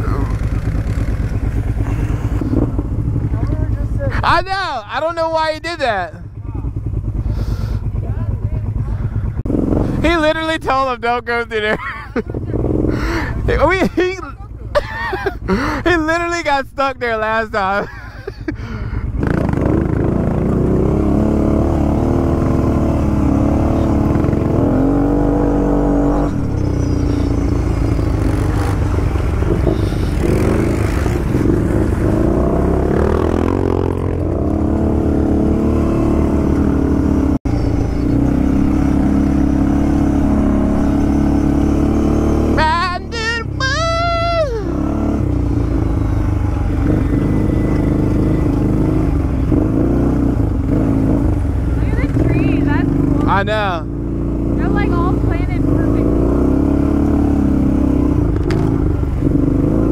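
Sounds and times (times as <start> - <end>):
atv engine under throttle: 0.0 - 59.9.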